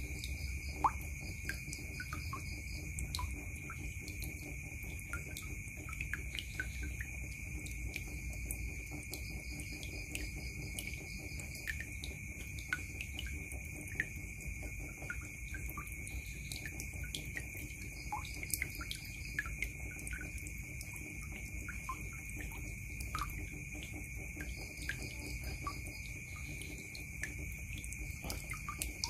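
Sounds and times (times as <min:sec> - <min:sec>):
water dripping into bucket: 0:00.0 - 0:29.0.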